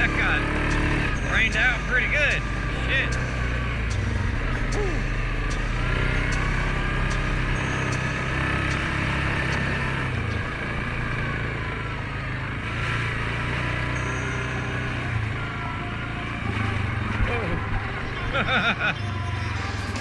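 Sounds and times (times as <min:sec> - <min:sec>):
atv engine running under load: 0:00.0 - 0:20.0.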